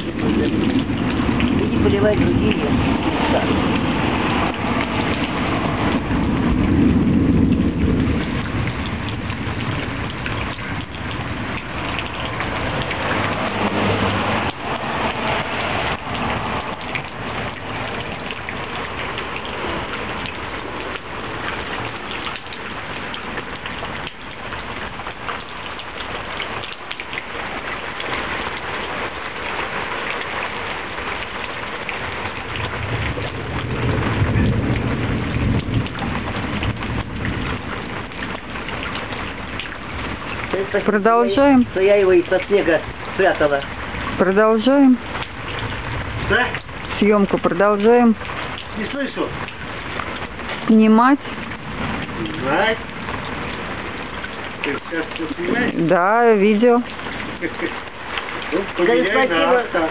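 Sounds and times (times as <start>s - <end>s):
low thunder rumble: 0.0s - 25.0s, 32.0s - 55.8s
heavy rain falling: 0.0s - 59.9s.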